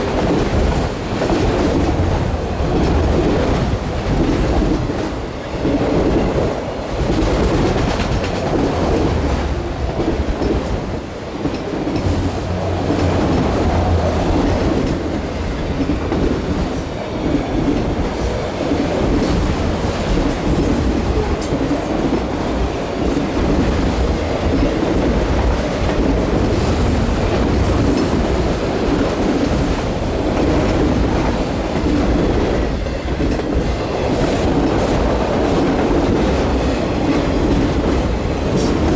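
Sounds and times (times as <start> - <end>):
freight train wheels rumbling: 0.0 - 38.9
train wheel clacks: 0.0 - 38.9.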